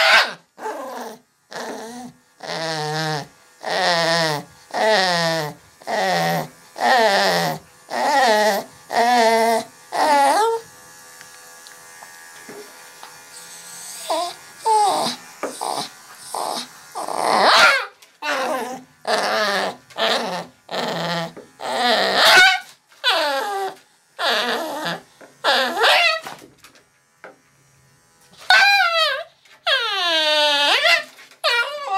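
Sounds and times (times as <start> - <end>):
small dog barking and yelping: 0.0 - 10.6, 13.7 - 26.3, 28.5 - 31.9
electric clipper humming: 0.0 - 29.6.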